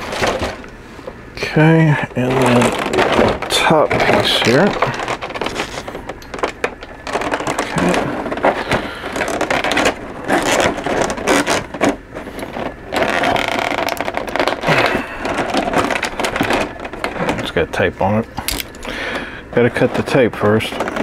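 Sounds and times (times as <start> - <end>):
plastic tray crinkling and clicking: 0.0 - 0.8, 2.1 - 21.0.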